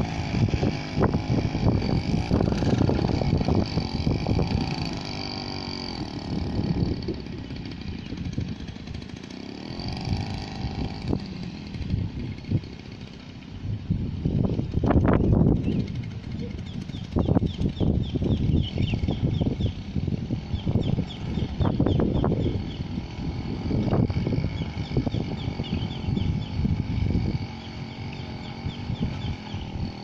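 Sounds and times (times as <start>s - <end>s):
small engine running with knocks: 0.0s - 30.0s.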